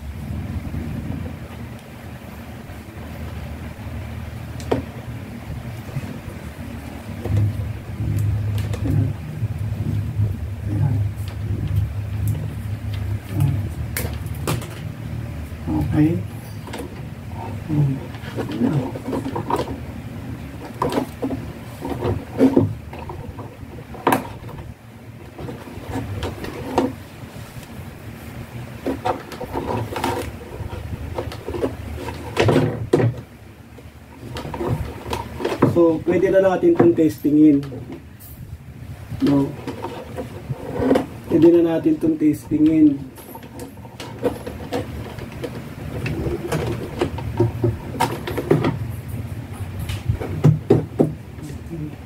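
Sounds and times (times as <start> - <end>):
steady low hum: 0.0 - 52.0
knocks and rustles of handling: 4.5 - 52.0.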